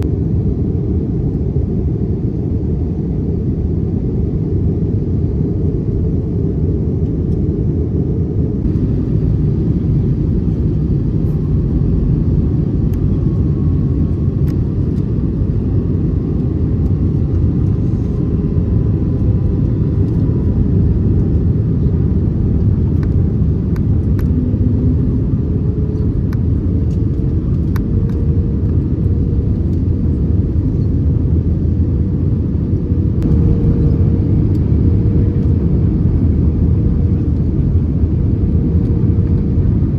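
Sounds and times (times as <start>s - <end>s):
airliner cabin rumble: 0.0s - 39.9s
faint hum: 0.0s - 39.9s.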